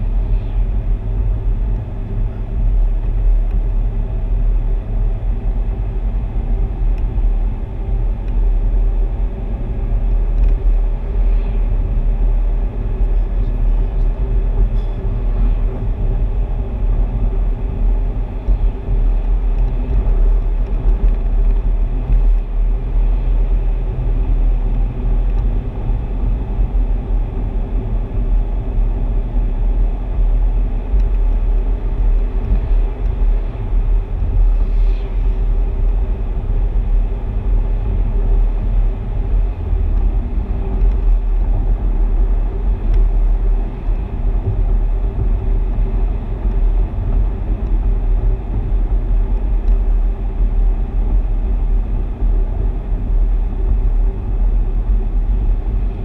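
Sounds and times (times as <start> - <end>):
car driving on paved road: 0.0 - 56.0.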